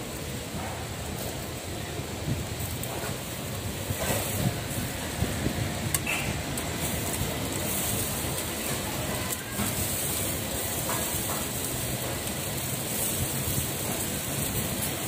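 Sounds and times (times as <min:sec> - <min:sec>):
food sizzling on a grill: 0:00.0 - 0:15.0
faint crackles: 0:00.2 - 0:15.0.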